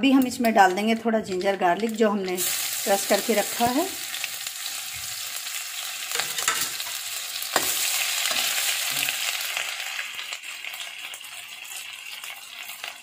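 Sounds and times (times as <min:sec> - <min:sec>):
paste sizzling in hot oil: 0:02.3 - 0:13.0.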